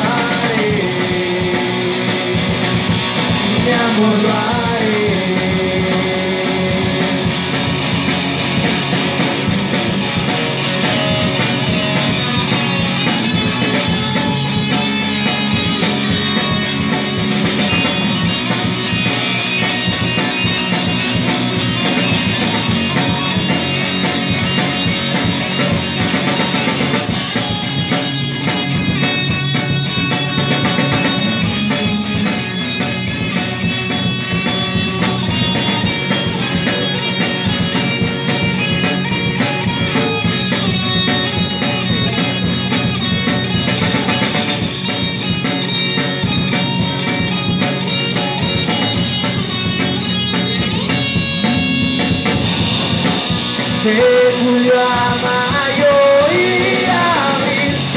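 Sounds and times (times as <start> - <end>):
drum kit: 0.0 - 57.9
electric guitar: 0.0 - 57.9
rock band playing: 0.0 - 57.9.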